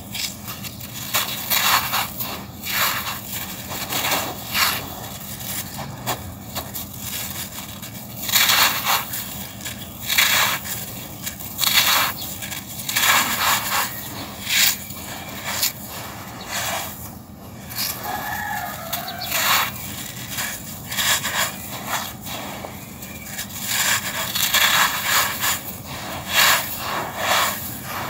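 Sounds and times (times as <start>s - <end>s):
dry sand crunching by hand: 0.0s - 28.0s
sand grains pouring: 0.0s - 28.0s.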